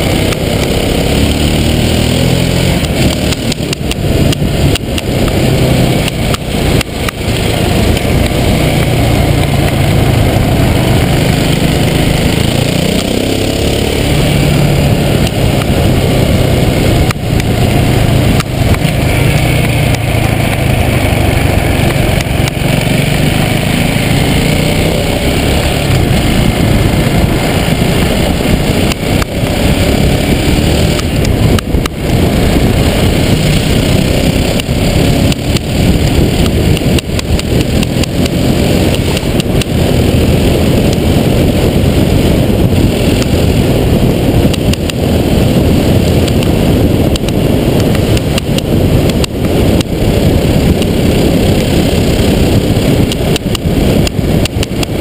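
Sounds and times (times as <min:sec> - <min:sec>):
motorcycle engine: 0:00.0 - 0:55.0
road noise: 0:00.0 - 0:55.0.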